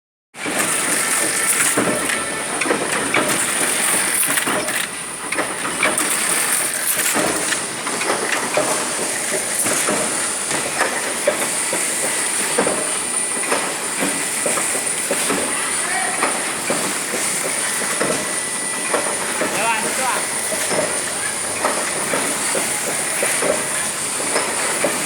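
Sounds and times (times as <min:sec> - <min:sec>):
die-cutting machine clattering: 0:00.4 - 0:25.0.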